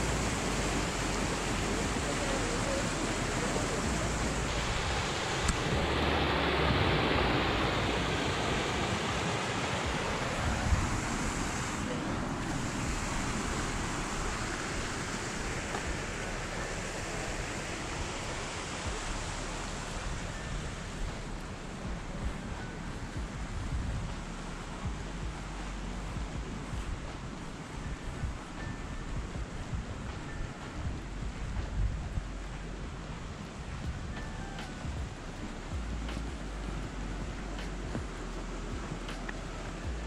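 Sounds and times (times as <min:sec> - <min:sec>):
stream rushing over cascades: 0:00.0 - 0:40.0
wind rumble on microphone: 0:00.0 - 0:40.0.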